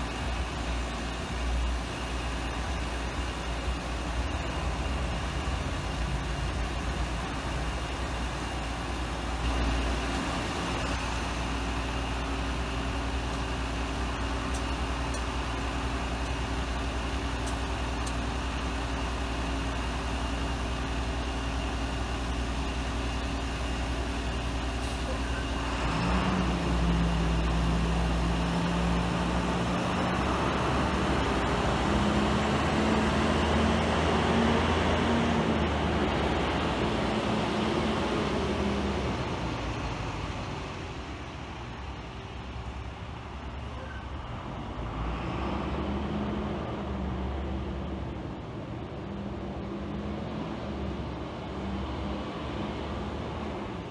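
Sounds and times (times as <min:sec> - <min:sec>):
truck engine idling: 0:00.0 - 0:53.9
truck pulling away: 0:00.0 - 0:53.9.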